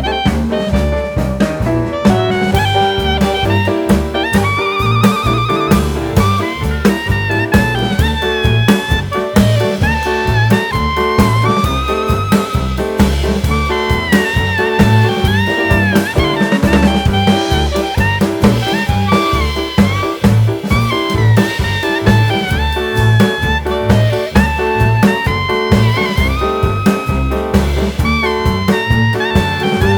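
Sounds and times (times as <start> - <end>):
drum kit and bass beat: 0.0 - 29.9
lead melody with vibrato: 1.8 - 29.9.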